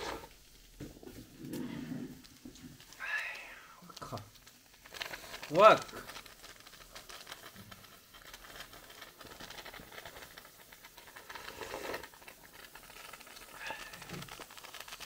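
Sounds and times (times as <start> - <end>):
cola fizzing in bottle: 0.0 - 15.0.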